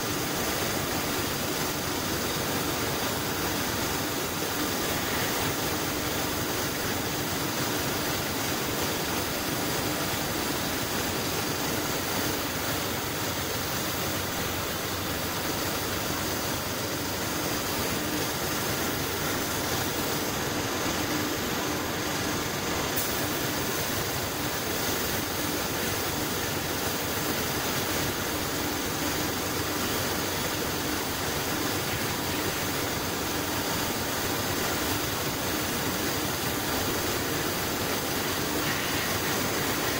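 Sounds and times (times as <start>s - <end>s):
paint spray gun hissing: 0.1s - 39.9s.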